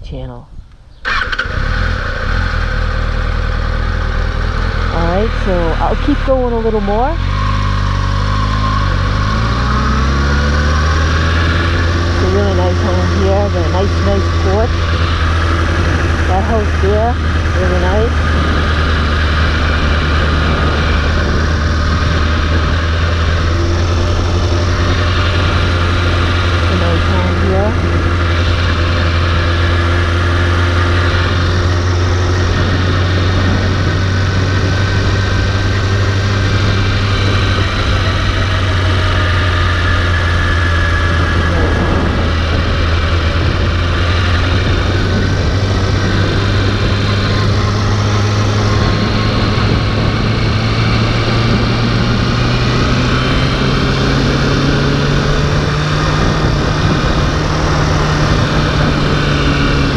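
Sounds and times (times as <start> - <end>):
vehicle engine running: 0.3 - 59.9.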